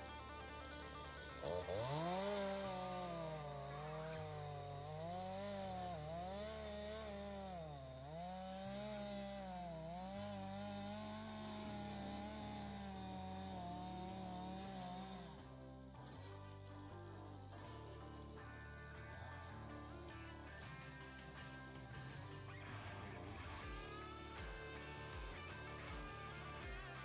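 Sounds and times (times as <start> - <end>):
chainsaw cutting through tree trunk: 0.0 - 27.0.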